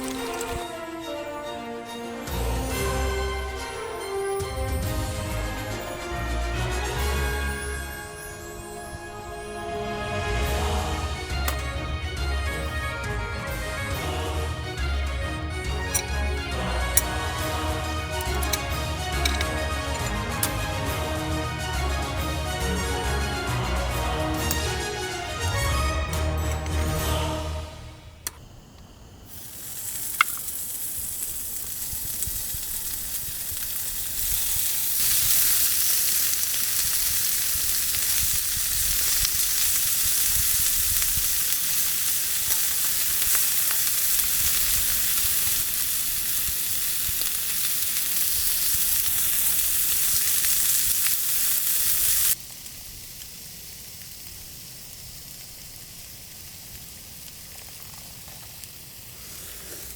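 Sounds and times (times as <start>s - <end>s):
food sizzling in hot pan: 0.0s - 1.4s, 2.7s - 59.9s.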